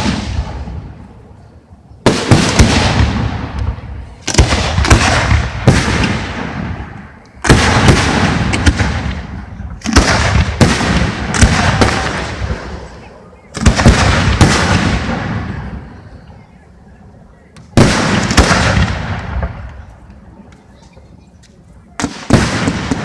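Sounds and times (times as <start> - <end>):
fireworks bursting with echo: 0.0 - 16.6, 17.4 - 23.0.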